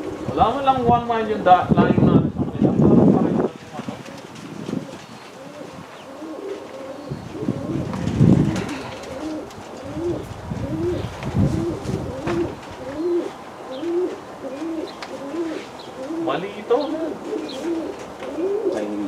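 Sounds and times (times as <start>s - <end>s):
pigeons cooing: 0.0s - 1.1s, 3.5s - 19.0s.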